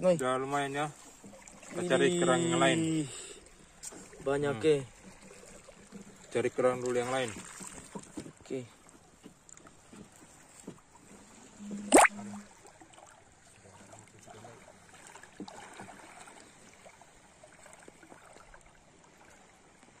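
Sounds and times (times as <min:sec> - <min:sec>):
seawater sloshing and trickling: 0:00.0 - 0:20.0.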